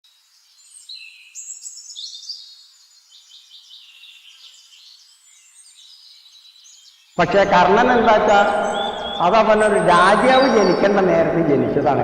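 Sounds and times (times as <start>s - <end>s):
small birds chirping and trilling: 0.1s - 11.7s.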